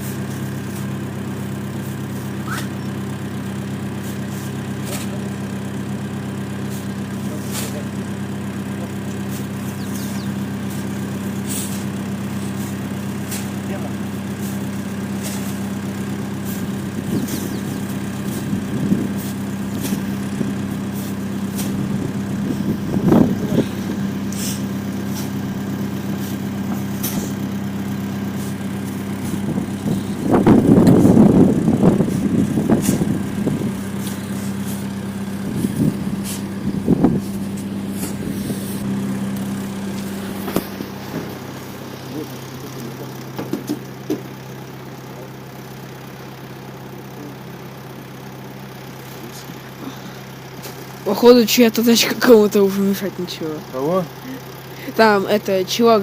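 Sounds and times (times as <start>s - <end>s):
small tractor engine running: 0.0s - 56.0s.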